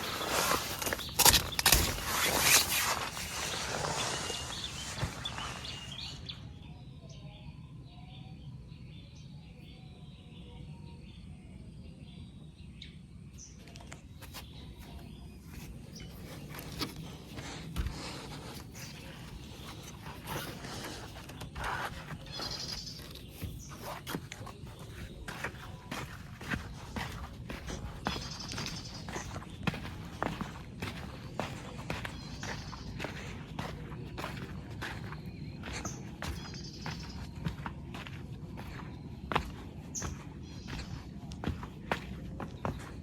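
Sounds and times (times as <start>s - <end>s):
rustling and handling noise: 0.0s - 6.3s, 14.1s - 43.0s.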